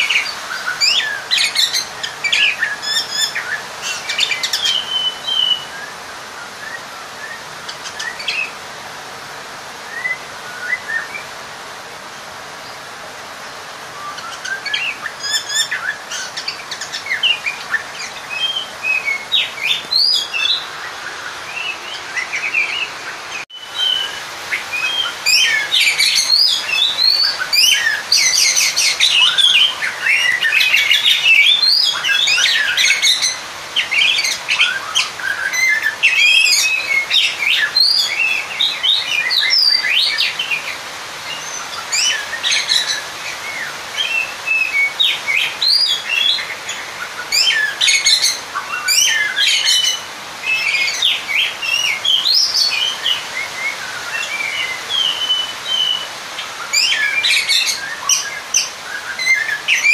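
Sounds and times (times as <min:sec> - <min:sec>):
bird singing chirps and whistles: 0:00.0 - 0:08.6, 0:09.8 - 0:11.3, 0:13.9 - 0:59.9.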